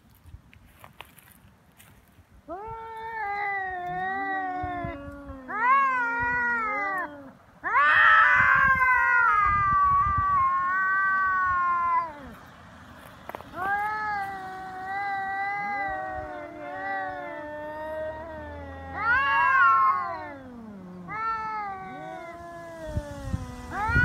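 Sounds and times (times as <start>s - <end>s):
cats caterwauling: 2.5s - 12.5s, 13.4s - 24.0s.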